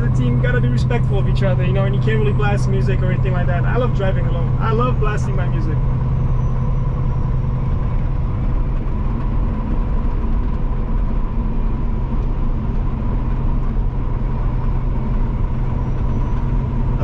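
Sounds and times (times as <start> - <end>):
faint constant whine: 0.0 - 17.0
road noise: 0.0 - 17.0
truck engine drone: 0.0 - 17.0.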